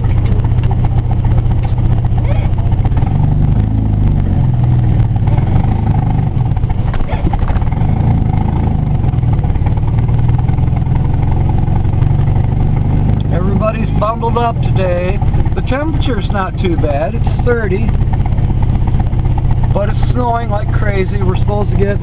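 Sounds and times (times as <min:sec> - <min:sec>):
vehicle engine accelerating: 0:00.0 - 0:22.0.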